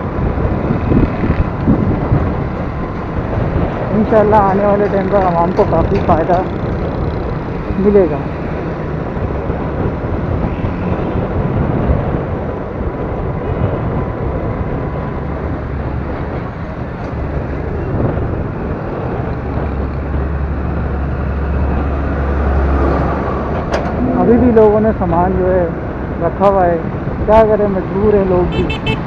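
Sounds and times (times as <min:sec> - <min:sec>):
deep low rumble: 0:00.0 - 0:27.7
road traffic rumble: 0:00.0 - 0:29.0
wind on microphone: 0:00.0 - 0:29.0.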